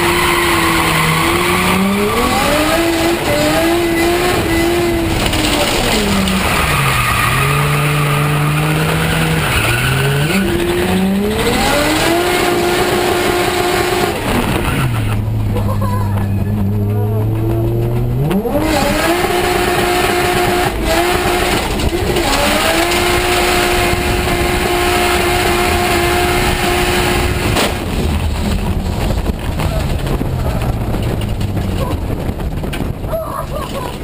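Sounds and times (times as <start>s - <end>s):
car engine revving: 0.0s - 33.1s.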